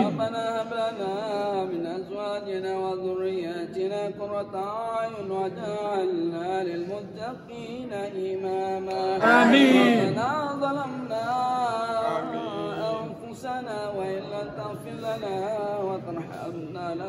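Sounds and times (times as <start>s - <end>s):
man chanting a prayer: 0.0s - 17.0s.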